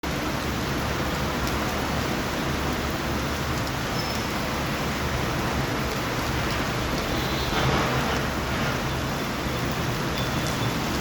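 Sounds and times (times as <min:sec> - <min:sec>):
rain falling steadily: 0:00.0 - 0:11.0.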